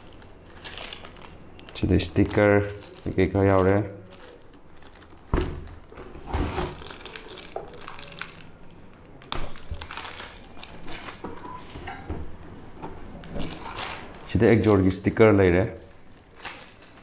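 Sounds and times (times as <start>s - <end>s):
plastic bag crinkling: 0.0s - 11.4s, 13.2s - 17.0s.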